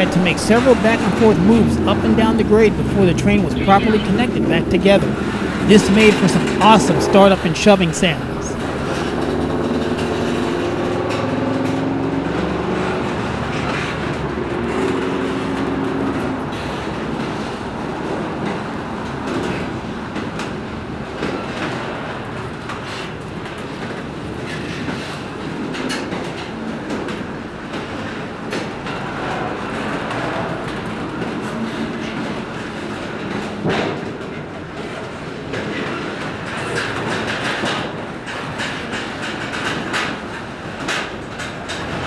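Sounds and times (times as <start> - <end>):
clanks of wheels and couplings: 0.0 - 42.0
train wheels rumbling on rails: 0.0 - 42.0.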